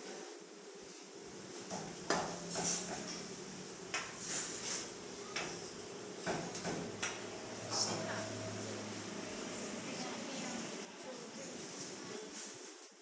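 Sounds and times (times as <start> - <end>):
steady low hum: 0.5 - 12.2.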